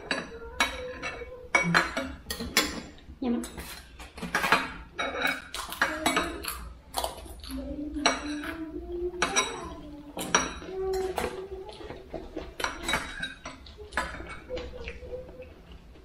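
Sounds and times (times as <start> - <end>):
utensils clinking on plates: 0.0 - 16.0.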